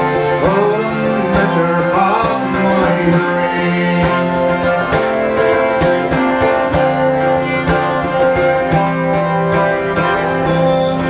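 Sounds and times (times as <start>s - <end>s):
concertina: 0.0s - 11.0s
fiddle: 0.0s - 11.0s
strummed mandolin: 0.0s - 11.0s.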